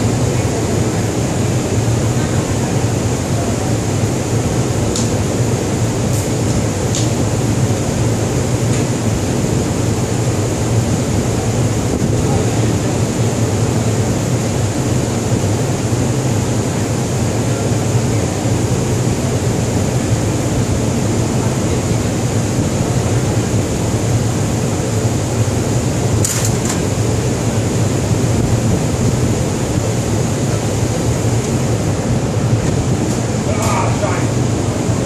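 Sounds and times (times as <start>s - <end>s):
ship machinery drone: 0.0s - 35.0s.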